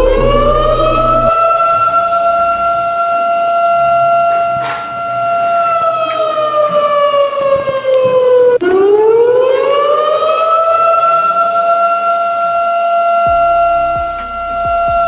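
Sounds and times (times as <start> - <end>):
siren steady tone: 0.0 - 15.0.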